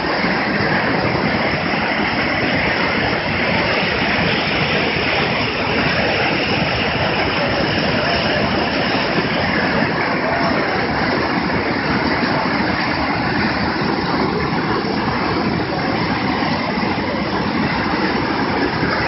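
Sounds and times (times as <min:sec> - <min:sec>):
river roaring in flood: 0:00.0 - 0:19.0.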